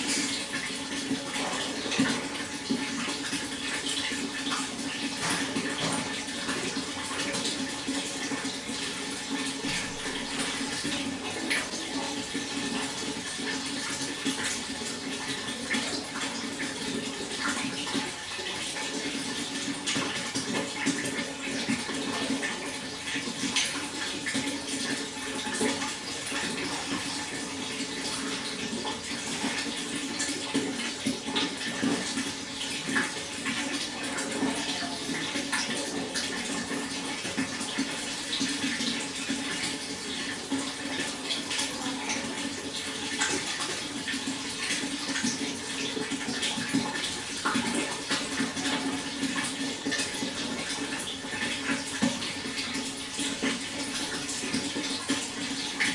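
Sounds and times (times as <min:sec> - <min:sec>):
water flowing and splashing: 0:00.0 - 0:55.9.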